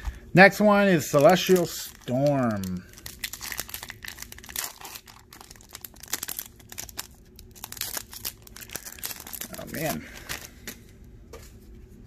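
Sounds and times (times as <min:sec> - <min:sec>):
foil wrapper crinkling: 0:01.1 - 0:10.8.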